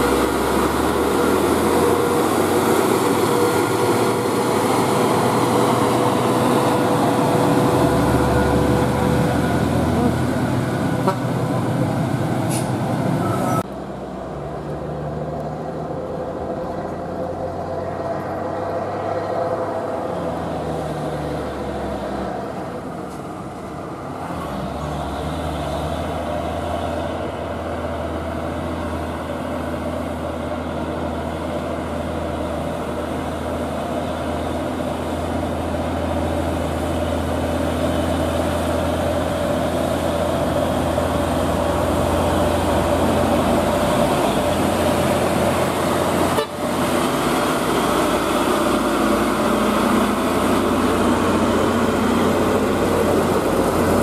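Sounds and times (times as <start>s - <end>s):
truck diesel engine passing: 0.0s - 54.0s.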